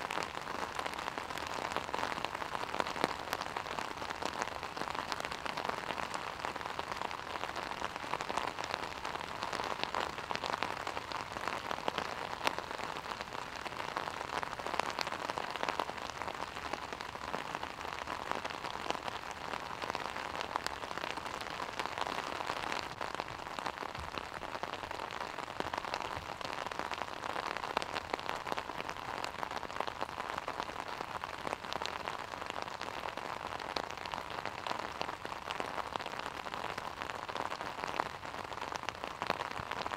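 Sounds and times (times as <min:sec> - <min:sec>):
rain hiss: 0:00.0 - 0:39.9
raindrops ticking on umbrella: 0:00.0 - 0:39.9.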